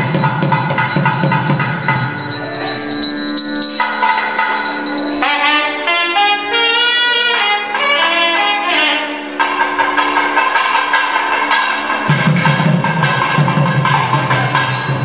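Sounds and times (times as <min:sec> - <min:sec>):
reed wind instrument melody: 0:00.0 - 0:15.0.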